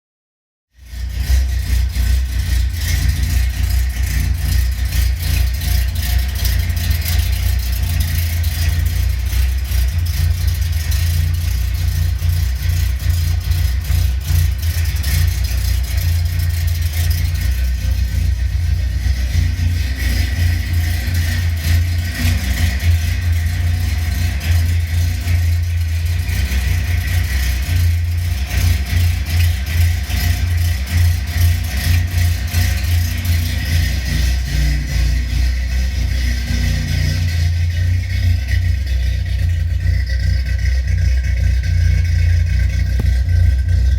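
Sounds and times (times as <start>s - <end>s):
car engine running steadily: 0.7s - 43.9s.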